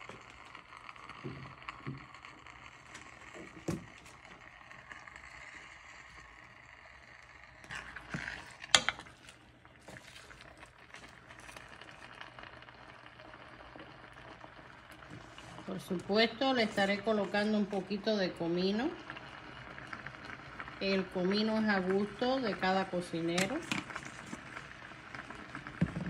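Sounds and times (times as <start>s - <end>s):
food sizzling in a pot: 0.0s - 26.0s.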